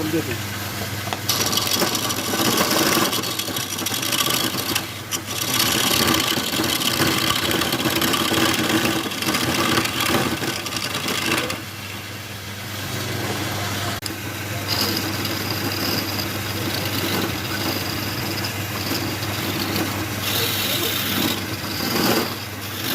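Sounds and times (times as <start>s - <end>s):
lathe motor humming: 0.0s - 22.9s
turning tool scraping spinning wood: 1.1s - 11.7s, 14.0s - 22.9s.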